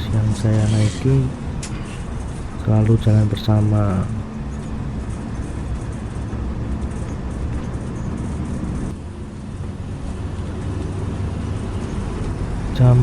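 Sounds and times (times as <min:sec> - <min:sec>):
bus engine and road noise hum: 0:00.0 - 0:13.0.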